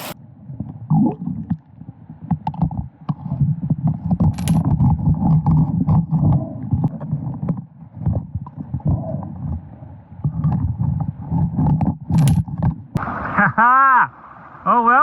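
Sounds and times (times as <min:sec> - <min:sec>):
muffled underwater stones knocking: 0:00.6 - 0:13.0.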